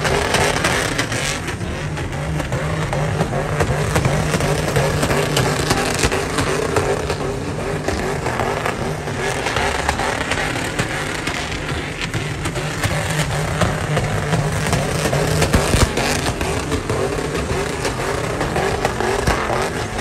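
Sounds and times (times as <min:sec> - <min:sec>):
truck engines revving high: 0:00.0 - 0:20.0
tyres spinning: 0:00.0 - 0:20.0.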